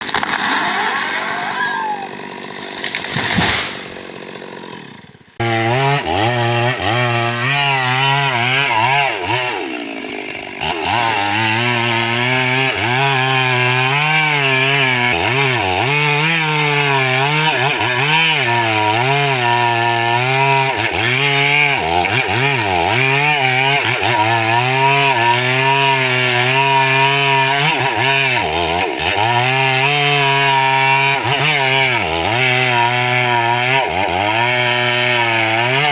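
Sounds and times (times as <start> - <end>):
chainsaw running hard: 0.0 - 35.9.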